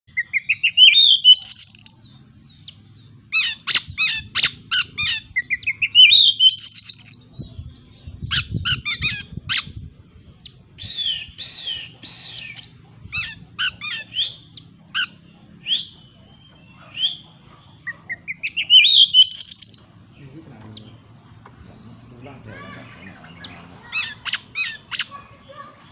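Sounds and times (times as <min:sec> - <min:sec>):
rising bird trill: 0:00.1 - 0:09.8, 0:10.5 - 0:21.0, 0:21.8 - 0:25.9
songbird singing: 0:00.1 - 0:25.9.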